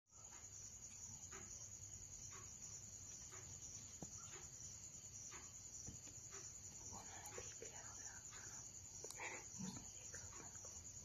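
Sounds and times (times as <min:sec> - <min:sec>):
crickets chirping: 0:00.1 - 0:11.0
faint repeating chirp: 0:00.1 - 0:11.0.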